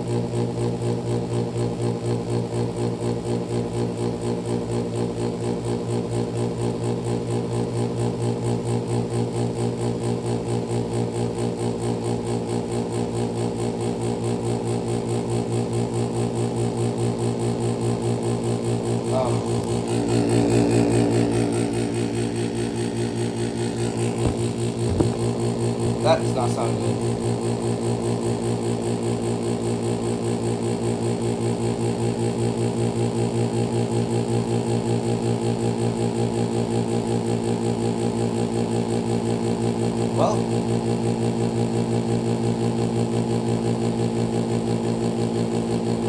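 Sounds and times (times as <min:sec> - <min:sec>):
heat pump pulsing hum: 0:00.0 - 0:46.0.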